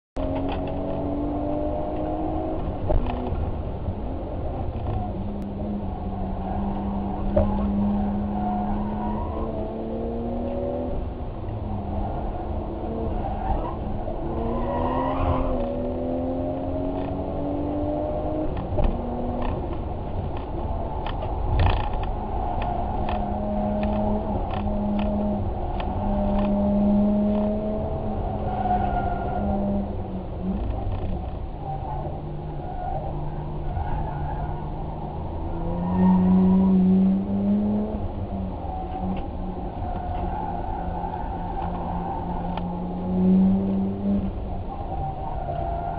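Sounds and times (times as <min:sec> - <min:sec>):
vehicle engine revving: 0:04.5 - 0:31.4, 0:34.5 - 0:44.5.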